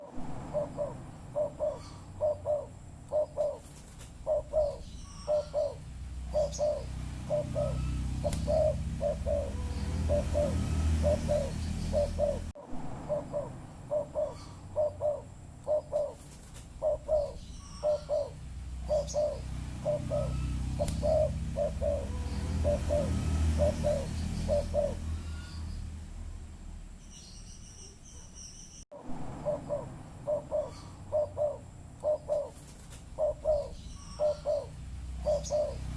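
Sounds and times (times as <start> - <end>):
dove cooing: 0.0 - 25.5, 29.4 - 35.9
low background rumble: 0.0 - 27.6, 29.0 - 35.9.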